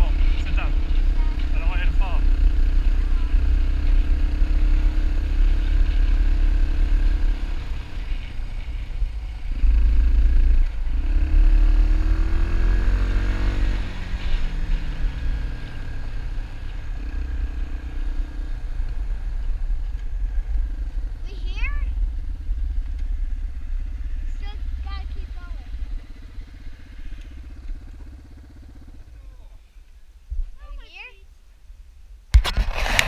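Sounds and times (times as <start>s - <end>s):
dirt bike engine running: 0.0s - 29.5s.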